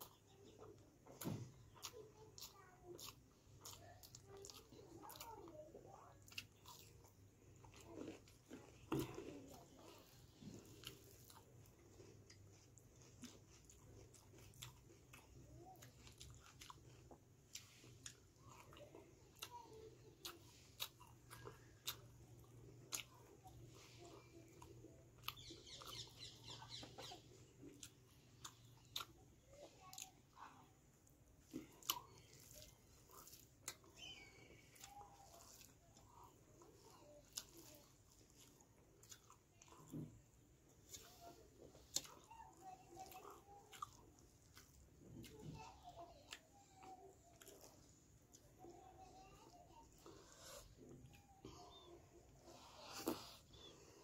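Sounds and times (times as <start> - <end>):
chewing and wet mouth clicks: 0.0 - 10.1, 10.7 - 30.4, 31.4 - 45.6.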